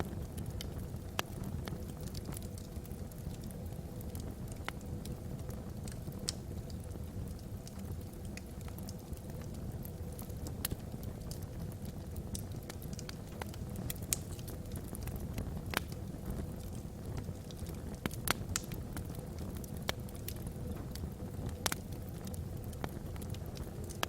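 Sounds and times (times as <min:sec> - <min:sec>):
logs burning with crackles and pops: 0:00.0 - 0:24.0.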